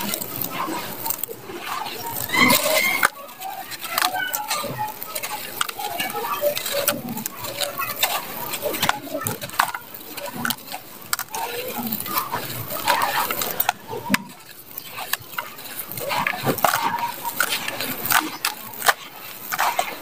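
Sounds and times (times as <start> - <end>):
dry earth crunching by hand: 0.0 - 20.0.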